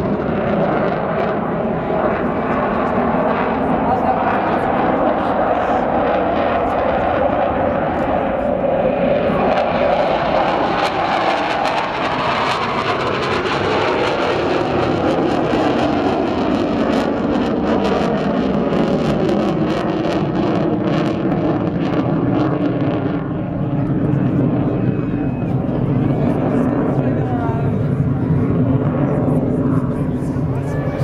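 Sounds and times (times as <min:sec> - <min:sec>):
fighter jet engines roaring: 0:00.0 - 0:31.0.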